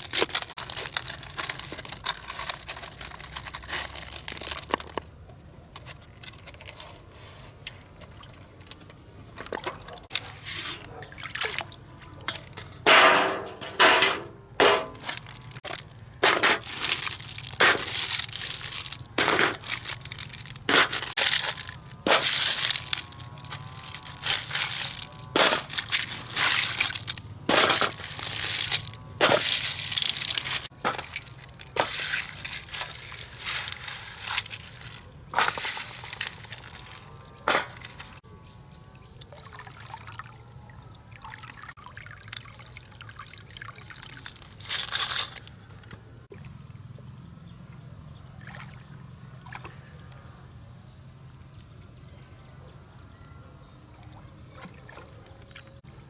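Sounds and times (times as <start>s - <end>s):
water splashing and sloshing: 0.0s - 5.0s, 5.8s - 38.2s, 39.2s - 50.2s, 54.2s - 56.0s.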